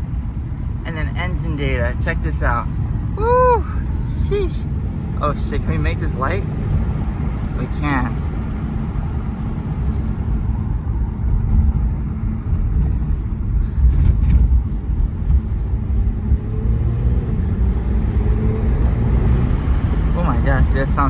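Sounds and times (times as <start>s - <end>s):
engine rumble inside car: 0.0s - 21.0s
road noise: 0.0s - 21.0s.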